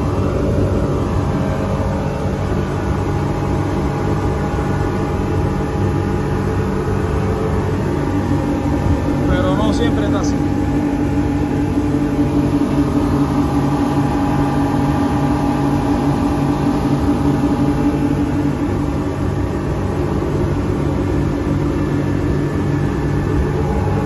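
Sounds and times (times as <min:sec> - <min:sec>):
boat engines running: 0:00.0 - 0:24.0.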